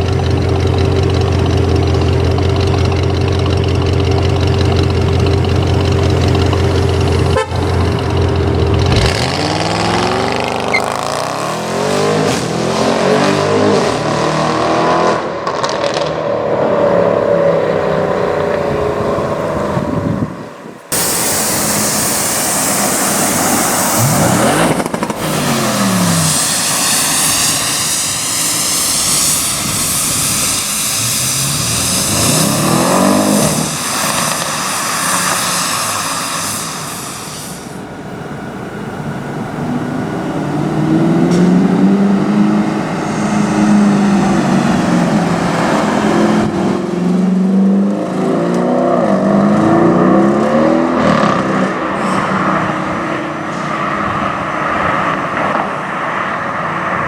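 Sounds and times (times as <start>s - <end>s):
deep engine note climbing: 0.0s - 54.7s
cars accelerating past: 0.0s - 57.0s
loud rushing noise: 5.4s - 57.0s.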